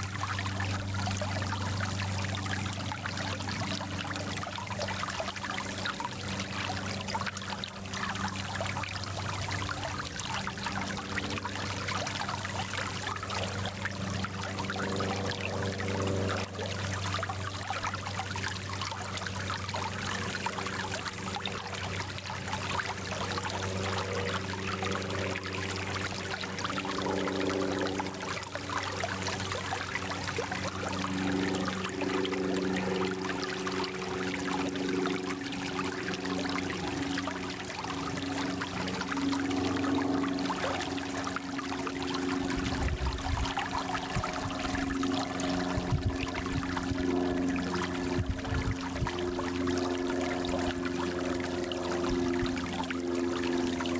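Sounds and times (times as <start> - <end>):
low water gurgling: 0.0 - 53.9
stream flowing over stones: 0.0 - 53.9.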